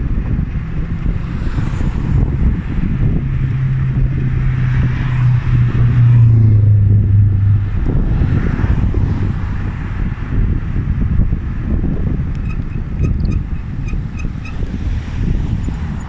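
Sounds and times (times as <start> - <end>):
engine hum: 0.0 - 16.0
wind buffeting microphone: 0.0 - 16.0.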